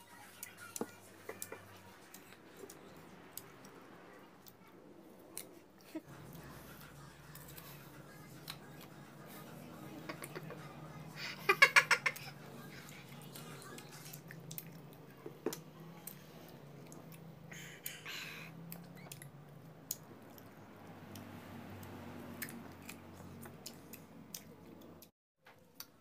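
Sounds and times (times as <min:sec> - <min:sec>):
low steady hum: 0:00.0 - 0:25.1
child chewing softly: 0:00.0 - 0:26.0.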